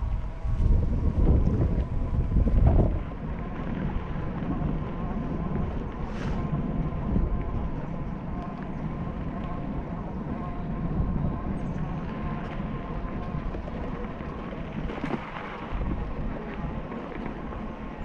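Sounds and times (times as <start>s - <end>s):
bicycle road noise: 0.0s - 18.0s
faint steady hum: 0.0s - 18.0s
wind rushing over microphone: 0.0s - 18.0s.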